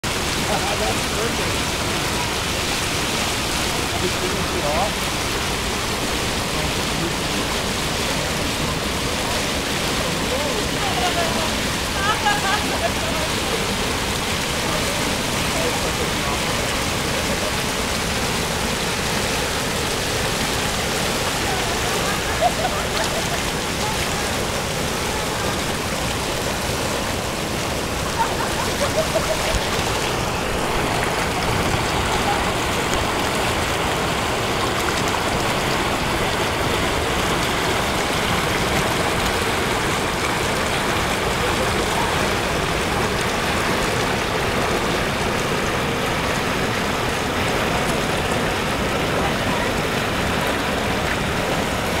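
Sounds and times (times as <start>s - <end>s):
river rapids rushing: 0.0s - 52.0s.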